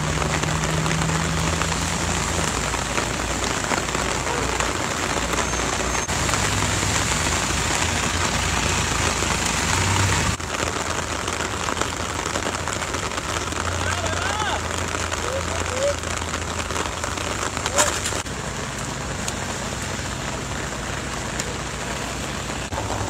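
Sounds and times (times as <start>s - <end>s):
rain on road and car: 0.0s - 23.0s.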